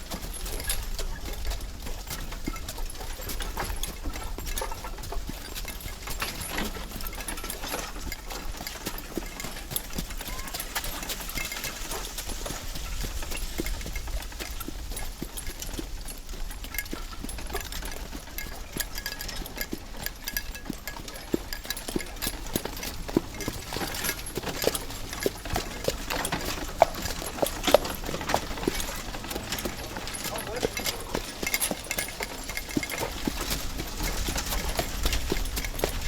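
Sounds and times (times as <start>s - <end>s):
cart wheel rumble: 0.0s - 36.0s
horse hooves clip-clopping: 0.0s - 36.0s
wooden cart knocking and creaking: 0.0s - 36.0s.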